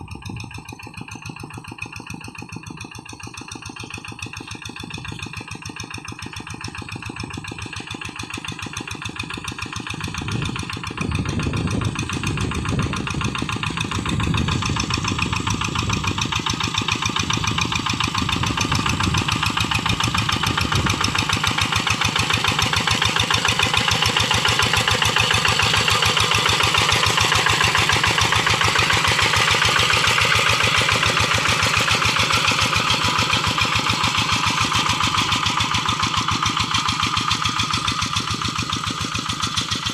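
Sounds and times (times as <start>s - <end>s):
diesel hand tractor running: 0.0s - 39.9s.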